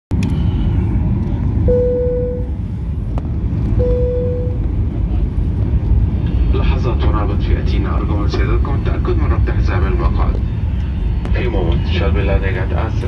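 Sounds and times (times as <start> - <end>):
airliner cabin engine rumble: 0.1 - 13.0.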